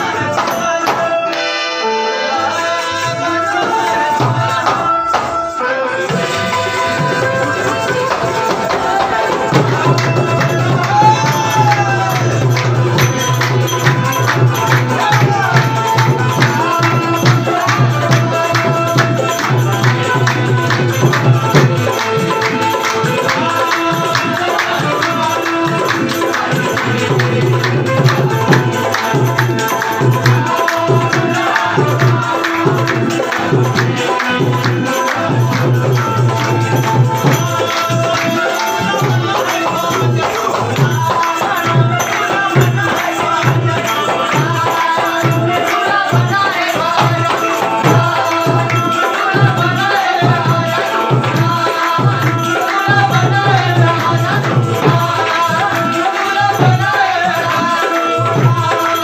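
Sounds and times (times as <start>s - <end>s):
tabla drumming: 0.0s - 1.6s, 2.4s - 59.0s
harmonium chords: 0.0s - 59.0s
person singing: 0.0s - 59.0s.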